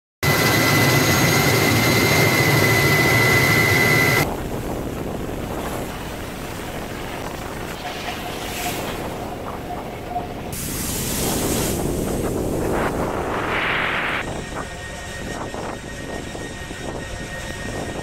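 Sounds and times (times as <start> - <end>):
helicopter turbine whine and rumble: 0.2 - 18.0.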